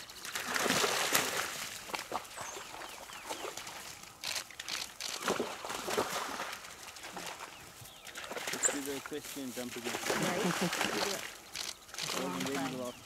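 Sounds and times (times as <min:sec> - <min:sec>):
dogs splashing through water: 0:00.0 - 0:13.0.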